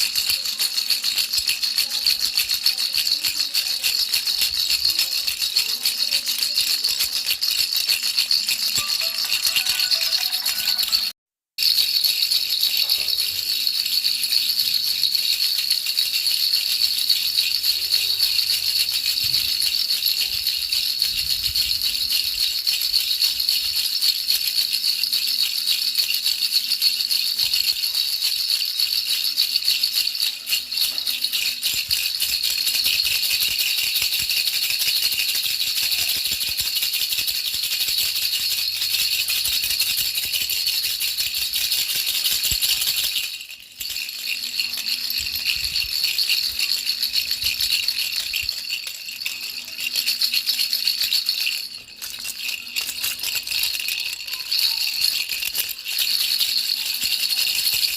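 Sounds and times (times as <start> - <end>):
baby rattle shaken: 0.0 - 57.9.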